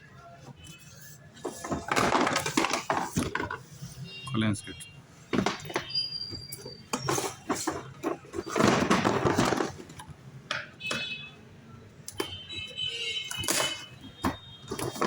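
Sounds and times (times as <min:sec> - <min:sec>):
hard objects clicking and knocking: 0:00.4 - 0:03.9, 0:05.3 - 0:11.2, 0:12.0 - 0:15.0.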